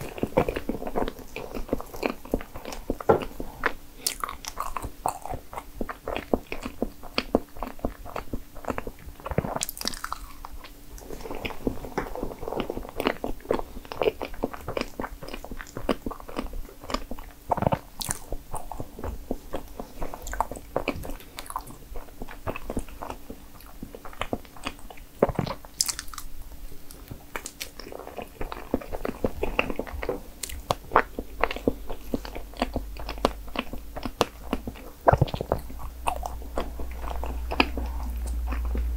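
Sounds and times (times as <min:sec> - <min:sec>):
person chewing with wet mouth clicks: 0:00.0 - 0:10.8, 0:11.4 - 0:26.3, 0:26.9 - 0:38.9.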